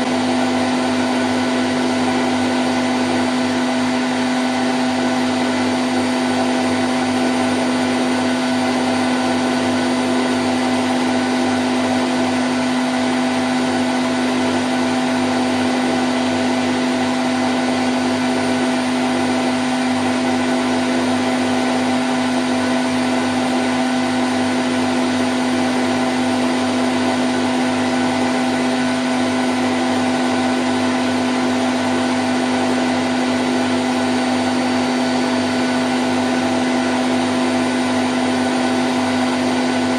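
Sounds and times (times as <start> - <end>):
washing machine spin cycle hum: 0.0 - 39.9.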